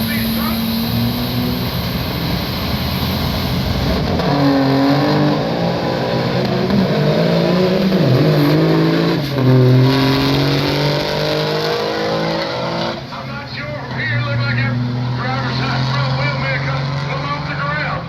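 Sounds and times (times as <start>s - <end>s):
diesel truck engines at full throttle: 0.0s - 18.0s.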